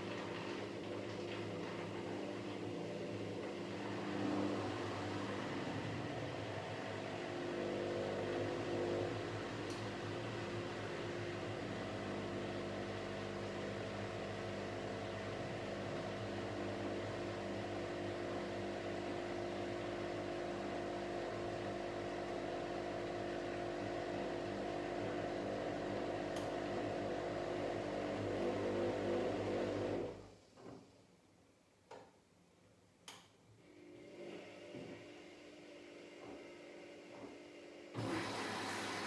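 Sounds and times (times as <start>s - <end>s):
washing machine drain pump humming: 0.0s - 30.3s, 33.6s - 39.0s.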